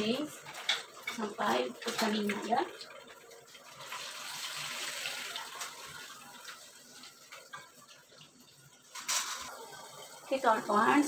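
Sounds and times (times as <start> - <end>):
chili paste sizzling in oil: 0.0 - 11.0.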